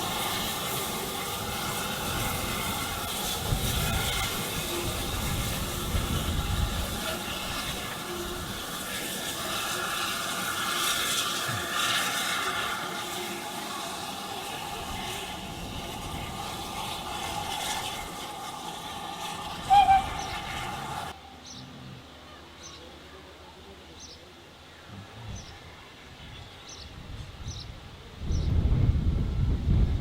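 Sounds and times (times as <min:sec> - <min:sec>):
train hiss and rumble: 0:00.0 - 0:30.0.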